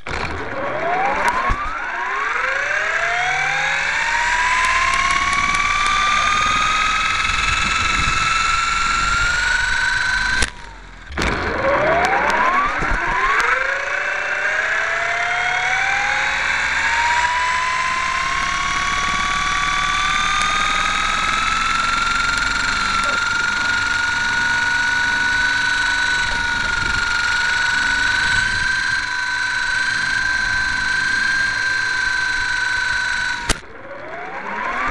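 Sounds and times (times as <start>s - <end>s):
model aircraft motor whine: 0.0s - 34.9s.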